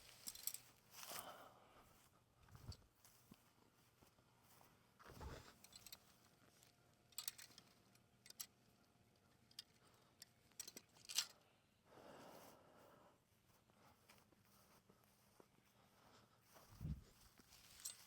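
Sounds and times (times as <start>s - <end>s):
faint handling clicks and rustles: 0.0s - 11.6s, 13.4s - 18.0s.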